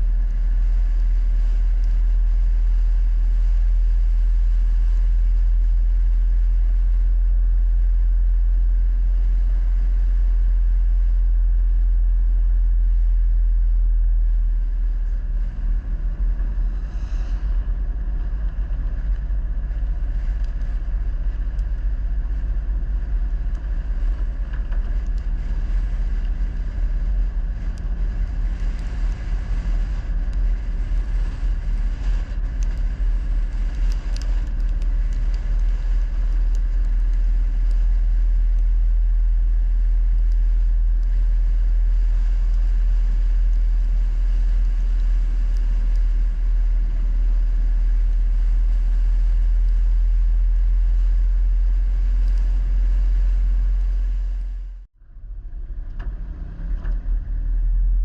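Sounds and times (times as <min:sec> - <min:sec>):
vehicle rumbling: 0:00.0 - 0:58.0.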